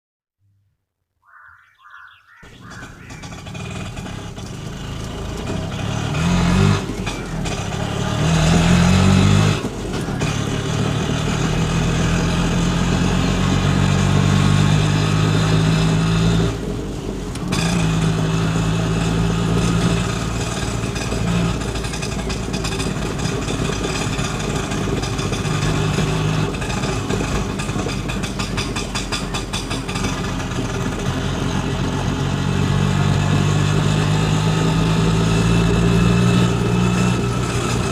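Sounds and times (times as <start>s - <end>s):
vehicle engine starting and running: 2.3s - 37.9s.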